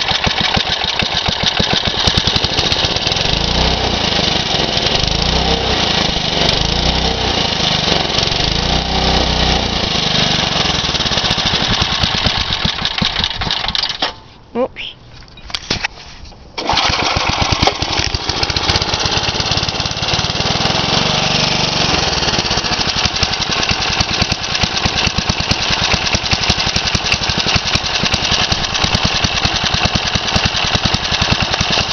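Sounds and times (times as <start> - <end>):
lawnmower engine starting and running: 0.0 - 14.3, 16.5 - 31.9.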